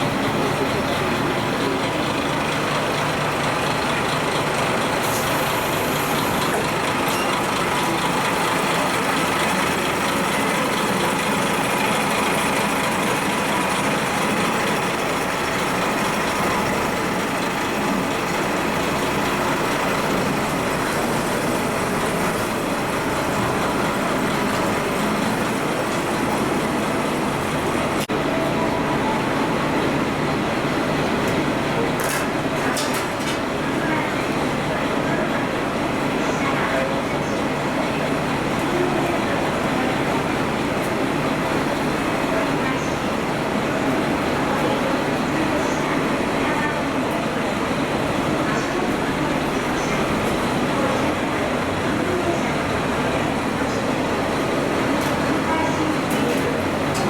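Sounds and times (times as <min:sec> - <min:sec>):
diesel railcar engine running: 0:00.0 - 0:57.0.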